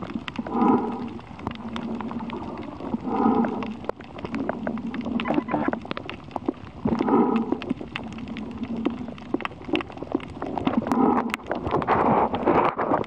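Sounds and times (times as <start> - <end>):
diver breathing underwater: 0.1 - 5.8, 6.8 - 9.3, 10.5 - 13.0.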